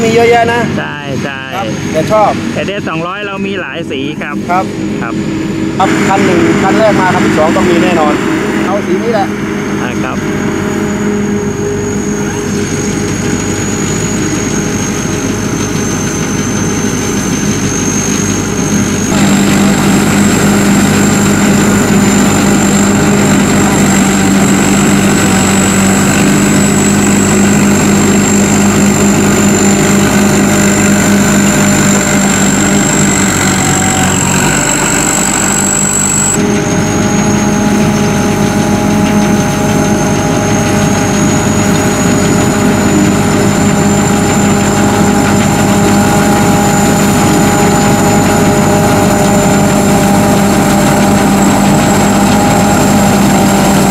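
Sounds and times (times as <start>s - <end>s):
harvester engine running: 0.0s - 53.9s
high thin whine: 0.0s - 53.9s.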